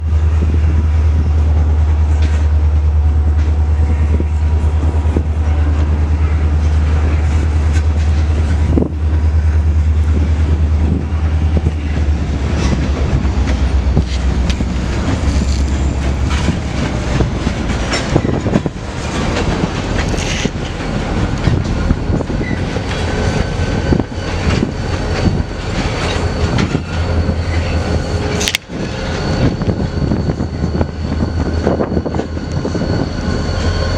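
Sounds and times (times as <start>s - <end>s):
diesel locomotive drone: 0.0s - 33.9s.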